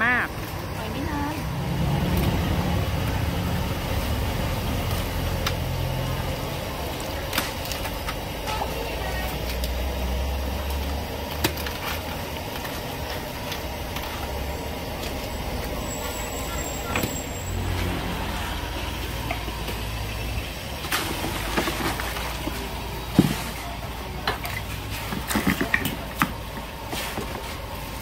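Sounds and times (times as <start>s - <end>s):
low engine-like hum: 0.0s - 28.0s.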